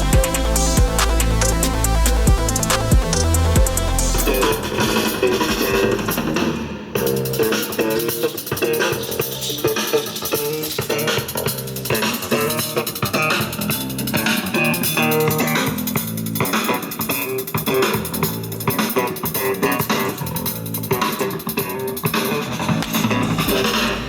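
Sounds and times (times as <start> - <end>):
guitar bass and drums music: 0.0 - 24.0.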